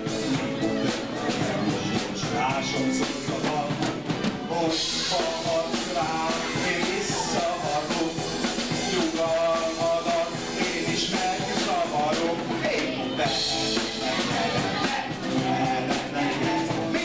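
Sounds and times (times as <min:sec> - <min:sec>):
drum kit: 0:00.0 - 0:17.0
live rock band: 0:00.0 - 0:17.0
man singing: 0:00.0 - 0:17.0.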